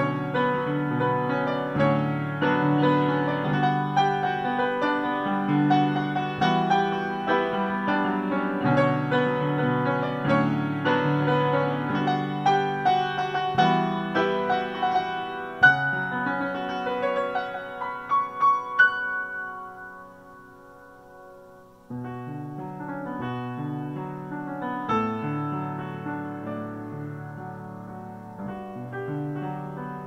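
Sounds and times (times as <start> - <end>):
upright piano playing: 0.0 - 30.0.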